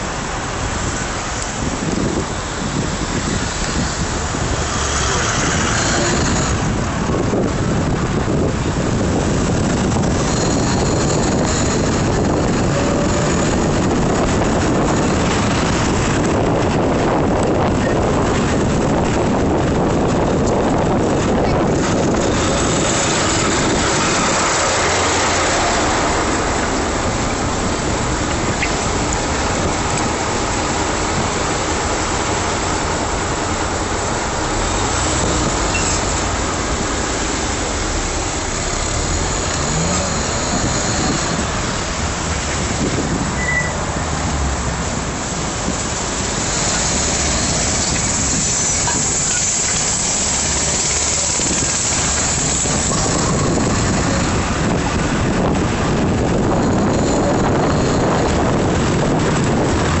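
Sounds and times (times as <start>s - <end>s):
cars and bus running: 0.0s - 60.0s
wind on microphone: 0.0s - 60.0s.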